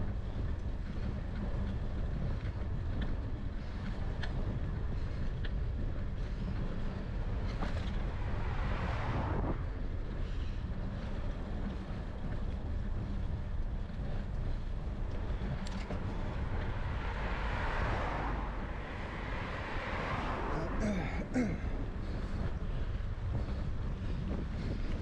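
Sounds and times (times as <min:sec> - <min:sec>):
passing cars tyre noise: 0:00.0 - 0:25.0
wind rumbling on microphone: 0:00.0 - 0:25.0.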